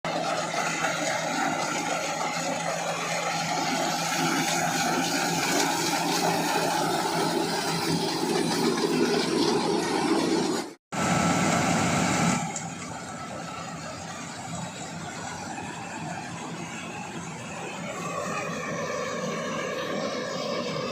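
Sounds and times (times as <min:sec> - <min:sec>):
harvester engine running: 0:00.0 - 0:20.9.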